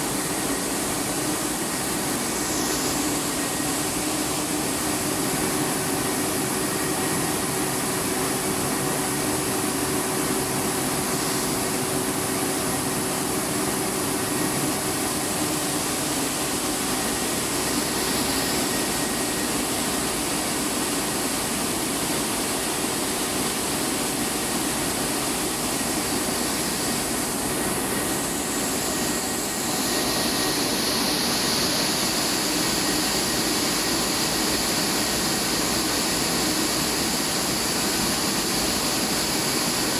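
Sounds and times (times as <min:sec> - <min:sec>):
motors and blowers humming: 0:00.0 - 0:39.9.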